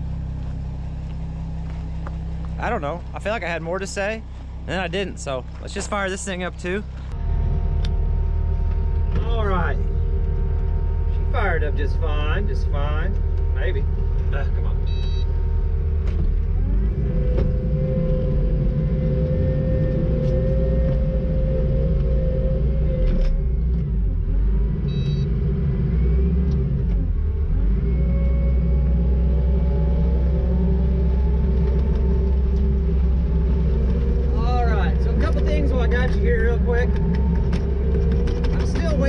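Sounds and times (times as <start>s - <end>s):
diesel engine running: 0.0s - 39.0s
steady whine: 0.0s - 39.0s.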